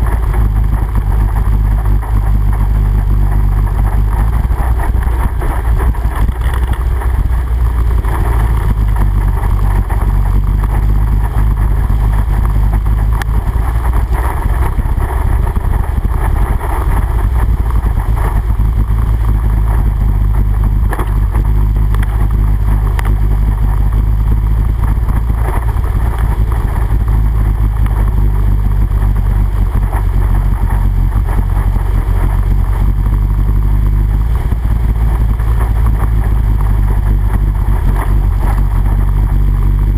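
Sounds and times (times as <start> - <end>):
atv engine running: 0.0 - 39.9
water splashing around tires: 0.0 - 39.9.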